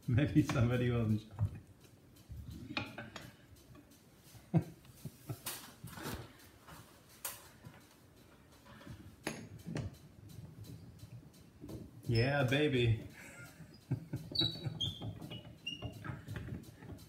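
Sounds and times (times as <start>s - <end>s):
wrench clicking on metal track: 0.1s - 4.1s, 7.2s - 17.0s.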